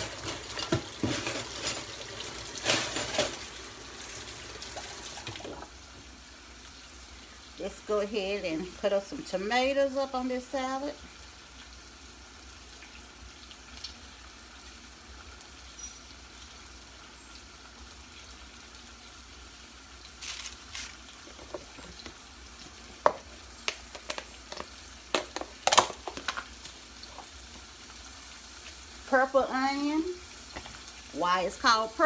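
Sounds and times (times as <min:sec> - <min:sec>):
meat sizzling in a frying pan: 0:00.0 - 0:32.0.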